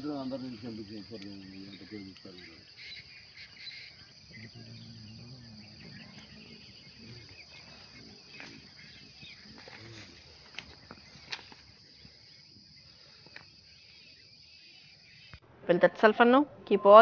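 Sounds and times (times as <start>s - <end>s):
insects chirring: 0.0s - 17.0s
low calls: 0.0s - 17.0s.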